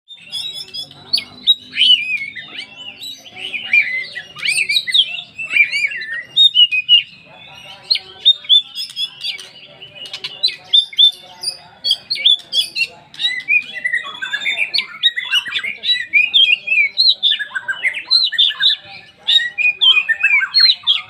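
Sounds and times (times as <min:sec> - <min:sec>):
bird singing whistles and chirps: 0:00.1 - 0:21.0.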